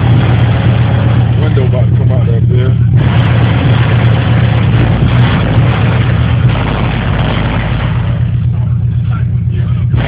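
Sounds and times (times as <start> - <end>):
engine low rumble: 0.0 - 10.0.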